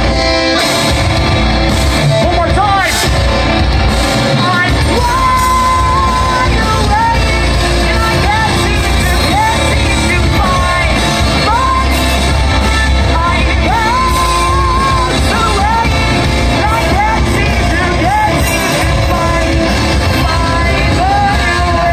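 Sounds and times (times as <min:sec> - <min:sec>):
metalcore band playing live: 0:00.0 - 0:21.9.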